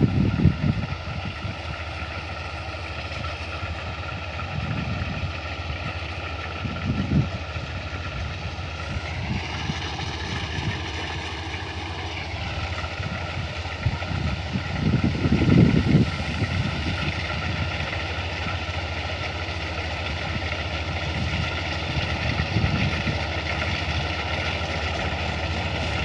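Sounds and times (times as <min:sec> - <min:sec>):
combine harvester hum with whine: 0:00.0 - 0:26.0.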